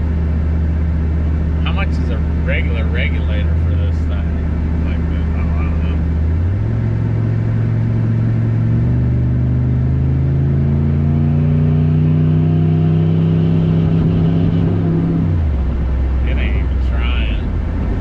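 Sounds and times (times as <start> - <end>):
pickup engine accelerating: 0.0 - 18.0.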